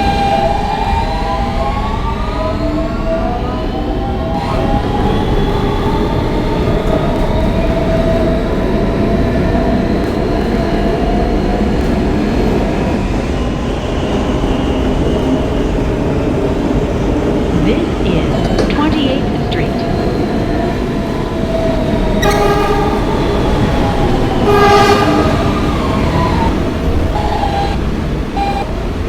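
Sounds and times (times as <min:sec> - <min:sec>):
wheels rumbling on rail: 0:00.0 - 0:29.0.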